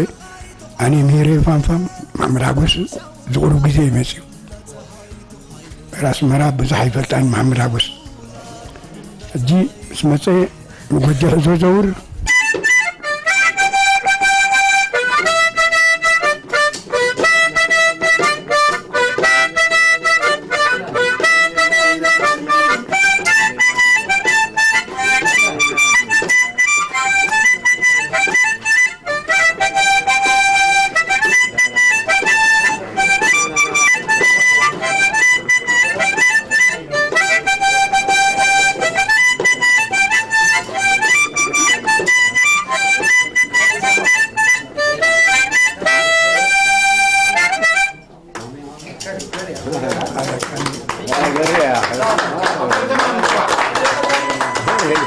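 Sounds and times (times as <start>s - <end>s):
harmonica melody: 0.0s - 48.2s, 53.4s - 55.0s.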